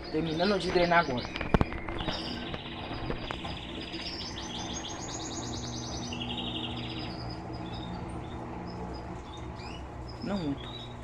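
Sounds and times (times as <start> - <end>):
small bird trilling: 0.0 - 11.0
washing machine pump humming: 0.0 - 11.0.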